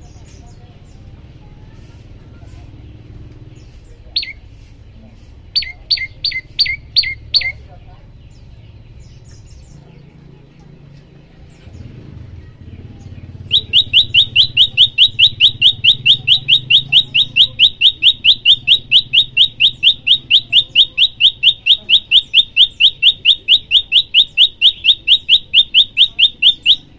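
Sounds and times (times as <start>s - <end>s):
songbird sharp rising chirps: 2.6s - 26.9s.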